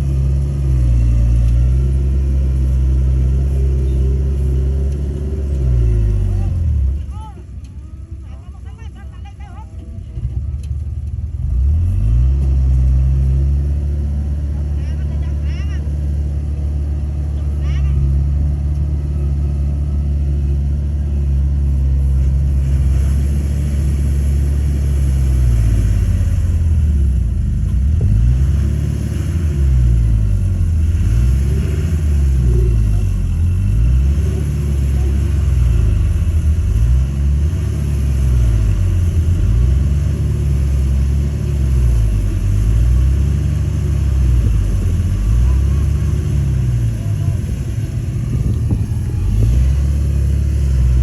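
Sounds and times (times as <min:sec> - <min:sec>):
bulldozer engine droning: 0:00.0 - 0:51.0.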